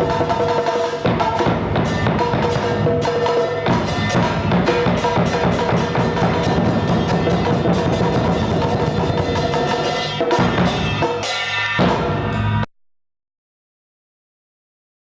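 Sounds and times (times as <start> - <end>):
fast drumming: 0.0 - 12.7.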